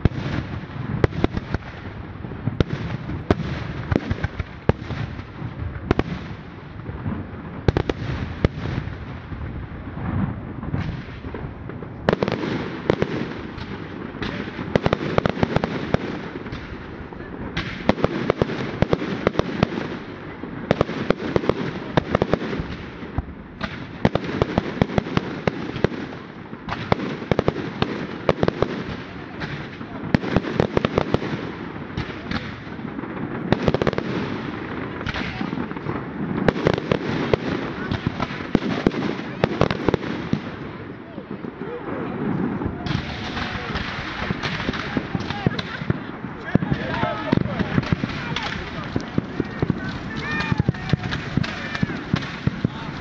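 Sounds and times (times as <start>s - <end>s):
firework bangs: 0.0s - 53.0s
fireworks crackling: 0.0s - 53.0s.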